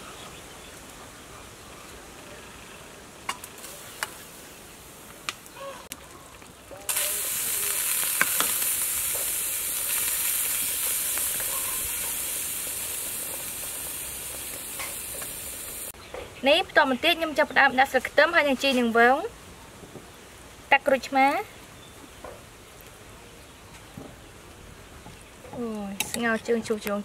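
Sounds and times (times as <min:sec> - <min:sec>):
loud steady hiss: 0:00.0 - 0:27.0.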